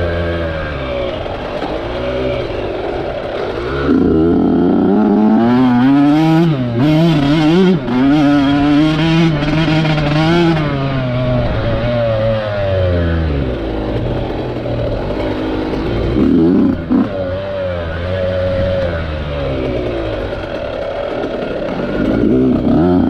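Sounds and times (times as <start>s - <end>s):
small racing engine revving: 0.0s - 23.0s.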